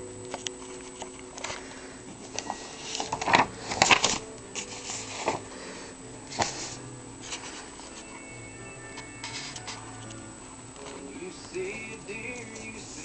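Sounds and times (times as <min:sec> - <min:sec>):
paper rustling: 0:00.3 - 0:08.2, 0:09.2 - 0:10.1, 0:10.8 - 0:13.0.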